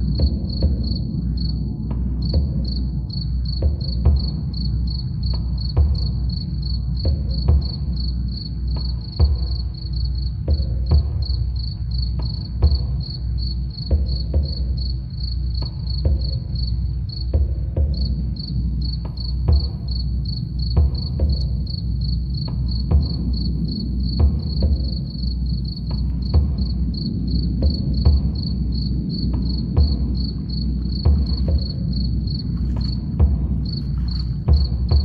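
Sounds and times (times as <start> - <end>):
crickets chirping: 0.0 - 35.0
deep soft drum beat: 0.0 - 35.0.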